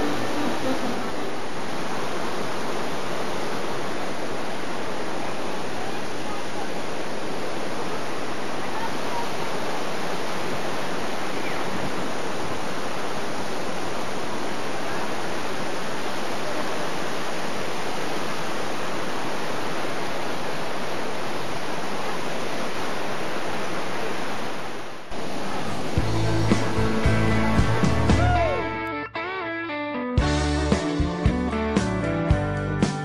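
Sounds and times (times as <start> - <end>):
river water rushing over rocks: 0.0 - 28.8.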